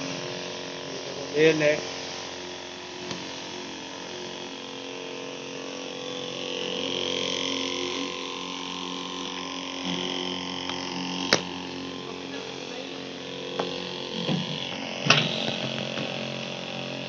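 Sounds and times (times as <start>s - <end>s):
pump motor humming: 0.0s - 17.0s.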